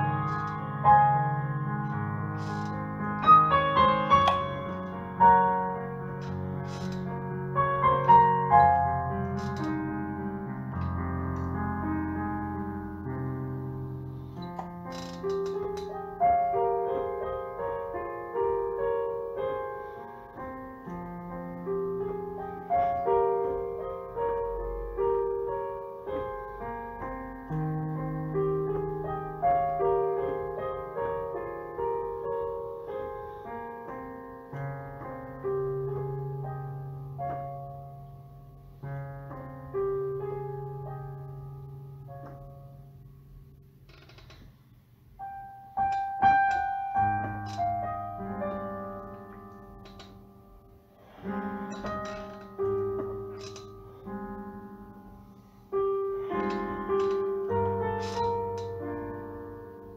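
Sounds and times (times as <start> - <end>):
solo piano melody: 0.0 - 59.9.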